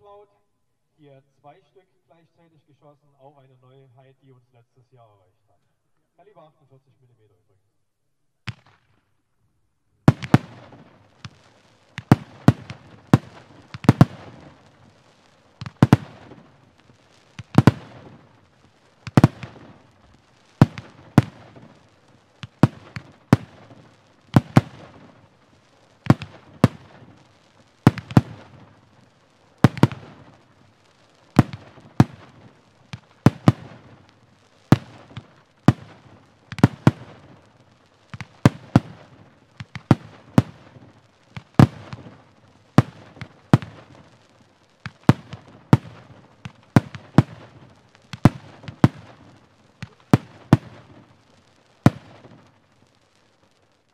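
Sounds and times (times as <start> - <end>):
fireworks bangs: 8.4 - 9.1, 10.0 - 53.9.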